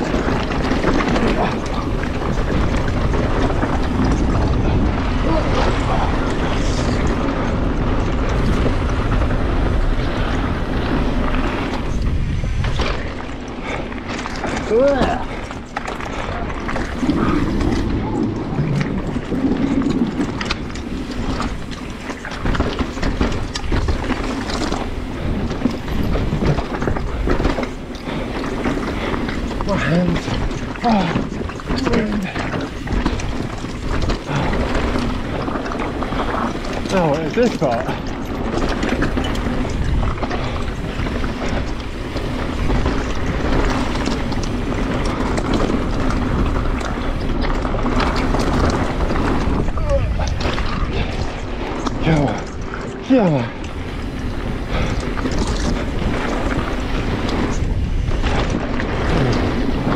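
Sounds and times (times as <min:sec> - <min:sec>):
bike tyres rumbling over rocks: 0:00.0 - 0:59.9
chain and frame rattling: 0:00.0 - 0:59.9
wind buffeting microphone: 0:00.0 - 0:59.9.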